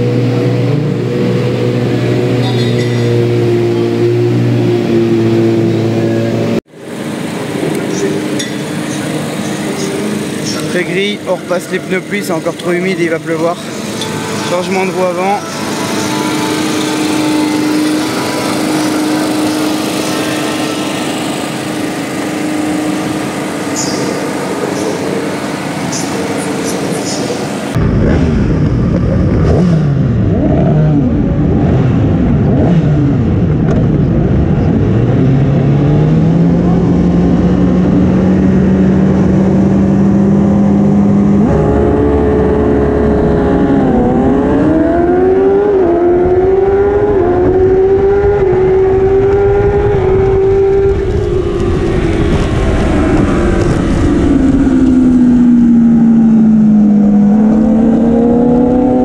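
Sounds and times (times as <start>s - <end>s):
race bikes revving: 0.0s - 59.0s
racing motorcycle engine accelerating: 0.0s - 59.0s.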